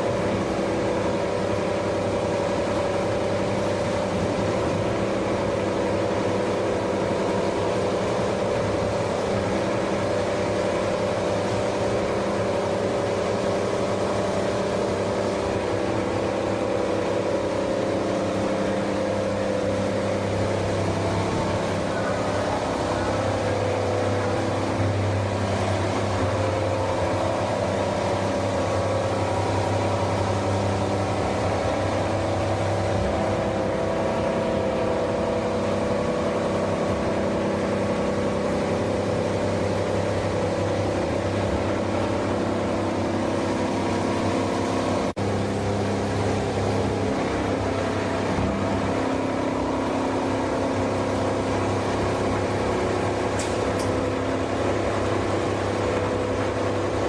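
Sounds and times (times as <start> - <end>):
plastic washing line machine hum: 0.0 - 57.0.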